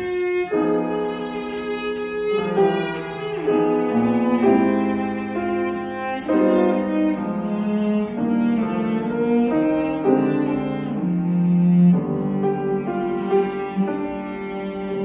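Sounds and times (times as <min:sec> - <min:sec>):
cello bowing sustained notes: 0:00.0 - 0:15.0
piano playing: 0:00.0 - 0:15.0.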